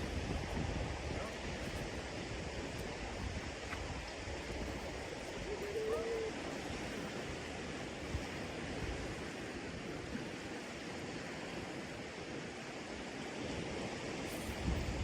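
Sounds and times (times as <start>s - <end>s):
water rushing: 0.0s - 15.0s
wind: 0.0s - 15.0s.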